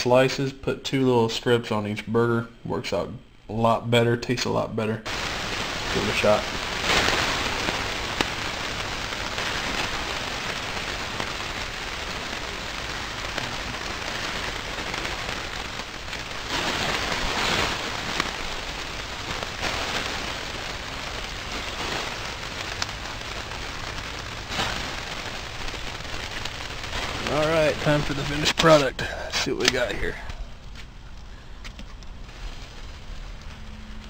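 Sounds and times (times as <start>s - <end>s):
burger patties sizzling on grill: 0.0s - 31.4s, 32.0s - 34.0s.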